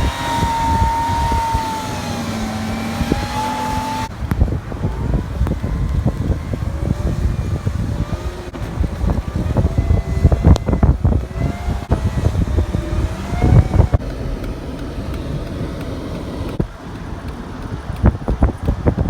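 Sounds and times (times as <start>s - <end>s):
engines running hard under load: 0.0s - 19.0s.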